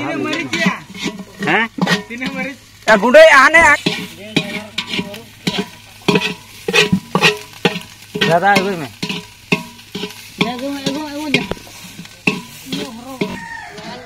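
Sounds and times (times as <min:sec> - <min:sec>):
onions sizzling in oil: 0:00.0 - 0:14.0
utensil scraping pot bottom: 0:00.0 - 0:14.0.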